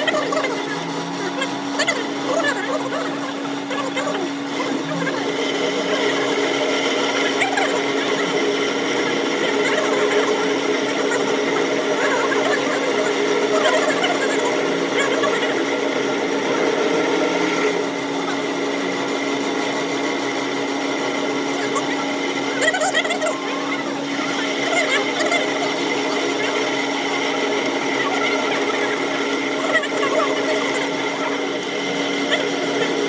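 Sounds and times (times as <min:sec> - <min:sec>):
power tool running: 0:00.0 - 0:33.0.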